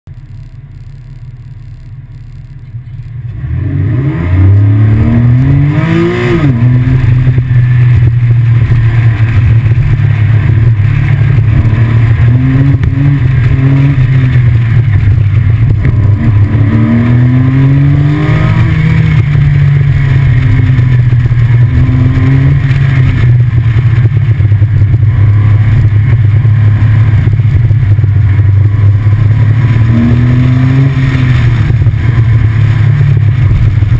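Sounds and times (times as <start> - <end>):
car engine revving under load: 0.1 - 33.9.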